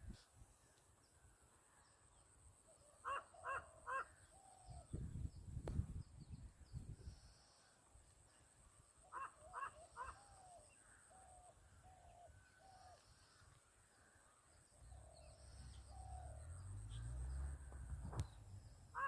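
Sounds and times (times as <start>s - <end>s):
birds calling: 0.6s - 5.4s, 6.4s - 19.0s.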